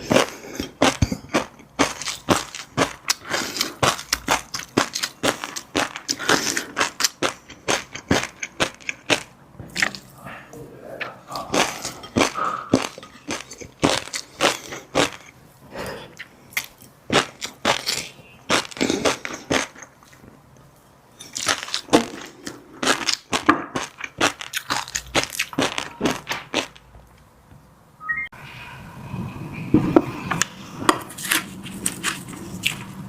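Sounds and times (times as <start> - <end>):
crunching and chewing food: 0.0 - 10.2, 11.0 - 27.3, 30.4 - 33.0.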